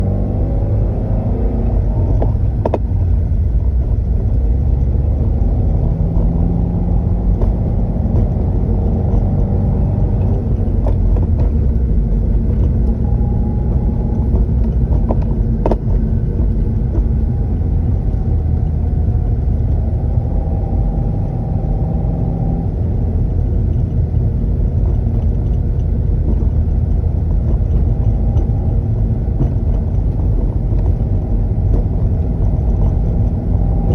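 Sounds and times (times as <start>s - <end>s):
car engine rumbling: 0.0s - 33.9s
clutch clunking: 0.7s - 33.9s.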